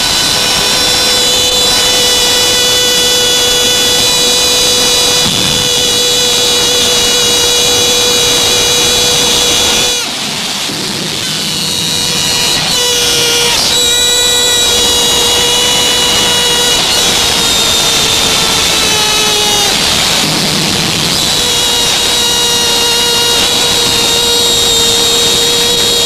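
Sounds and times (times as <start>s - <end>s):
long held horn tones: 0.0s - 26.0s.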